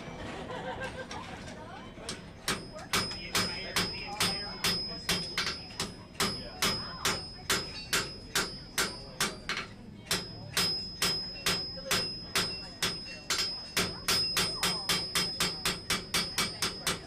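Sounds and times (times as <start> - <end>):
hammer striking steel on anvil: 2.1 - 17.0.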